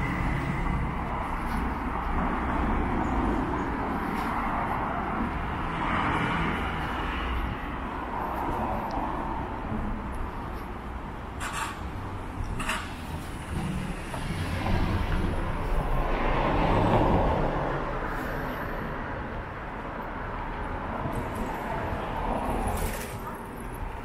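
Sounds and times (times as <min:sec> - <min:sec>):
vehicle passing: 0:00.0 - 0:11.3, 0:13.0 - 0:24.0
traffic rumble: 0:00.0 - 0:24.0.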